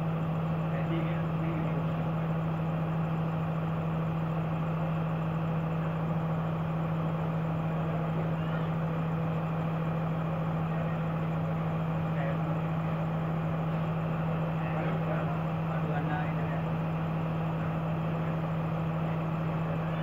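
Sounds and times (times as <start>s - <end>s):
diesel locomotive engine idling: 0.0s - 20.0s.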